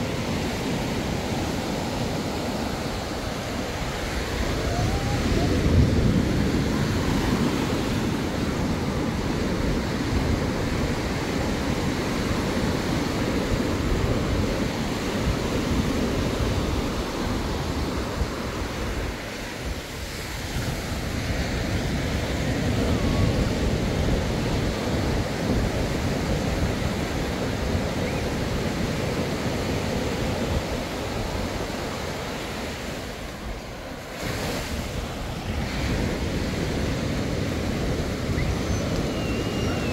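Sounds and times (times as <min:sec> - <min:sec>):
surf washing onto beach: 0:00.0 - 0:39.9
wind buffeting microphone: 0:00.0 - 0:39.9.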